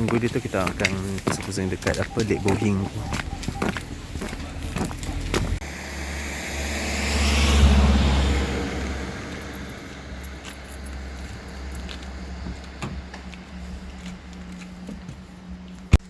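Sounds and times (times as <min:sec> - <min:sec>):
road vehicle driving past: 0:00.0 - 0:15.7.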